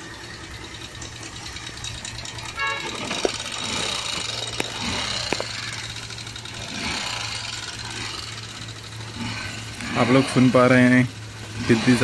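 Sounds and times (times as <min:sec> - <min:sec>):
mechanical knocking from engine: 0:00.0 - 0:12.0
motorcycle engine running: 0:00.0 - 0:12.0.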